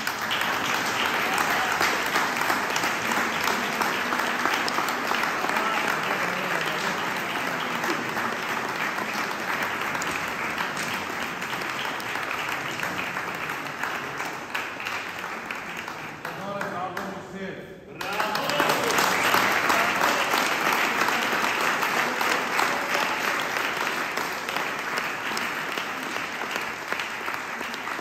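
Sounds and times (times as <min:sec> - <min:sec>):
audience applauding: 0:00.0 - 0:17.2, 0:18.0 - 0:28.0.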